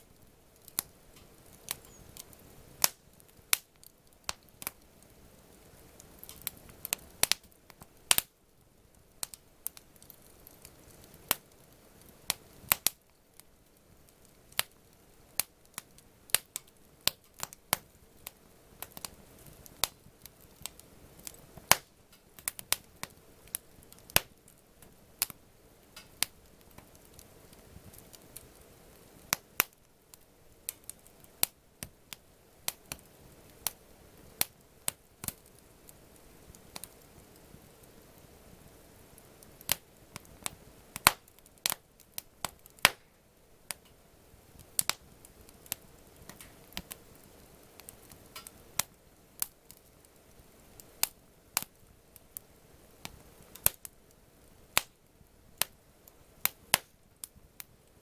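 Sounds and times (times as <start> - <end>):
campfire crackling and popping: 0.0 - 58.0
hiss of burning wood: 0.0 - 58.0.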